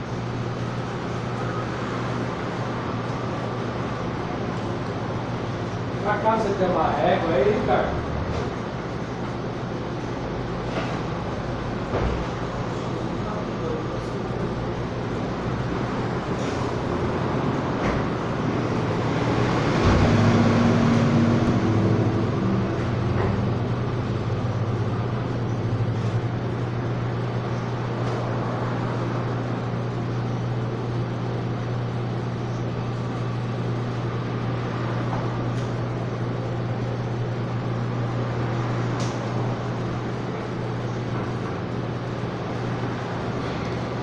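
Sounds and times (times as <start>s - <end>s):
low mechanical hum: 0.0s - 44.0s.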